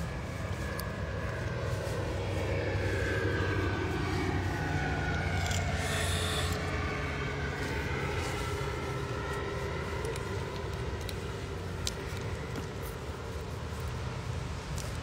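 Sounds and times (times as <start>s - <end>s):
passing engine rumble: 0.0s - 15.0s.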